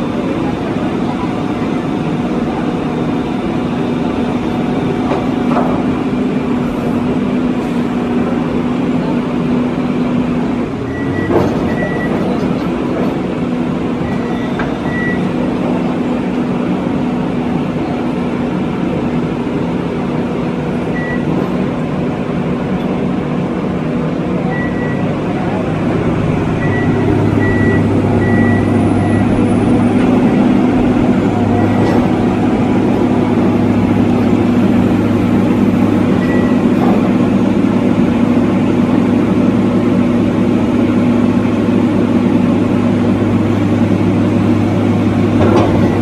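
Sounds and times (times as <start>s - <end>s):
diesel engine and hydraulics humming: 0.0s - 46.0s.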